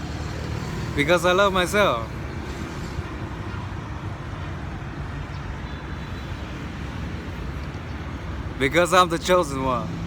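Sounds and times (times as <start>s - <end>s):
low rumble of road vehicles: 0.0s - 10.0s.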